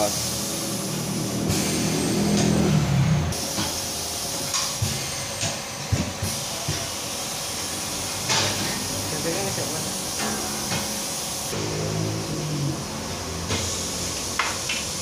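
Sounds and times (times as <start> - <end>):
wheel balancing machine whirring: 0.0 - 15.0.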